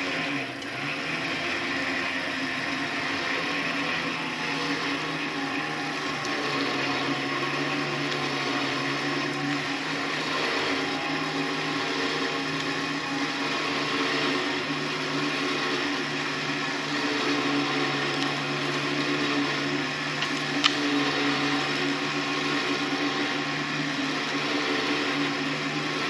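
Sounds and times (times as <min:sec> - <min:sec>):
electric motor whine: 0:00.0 - 0:26.0.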